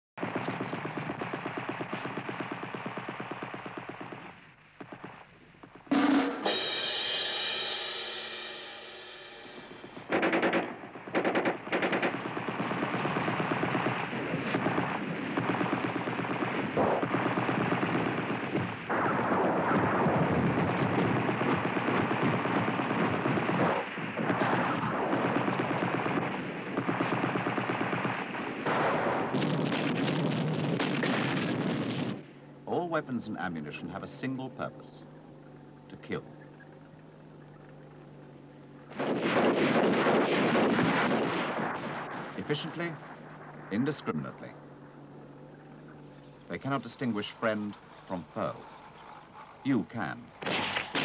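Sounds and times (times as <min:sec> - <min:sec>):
machine-gun fire bursts: 0:00.2 - 0:06.7, 0:09.4 - 0:32.4, 0:38.8 - 0:49.6, 0:50.3 - 0:51.0.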